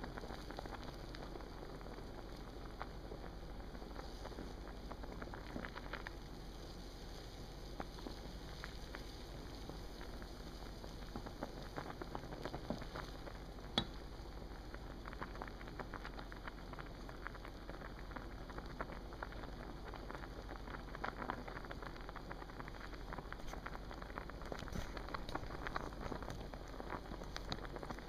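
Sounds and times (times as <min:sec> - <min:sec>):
water boiling and bubbling: 0:00.0 - 0:28.0.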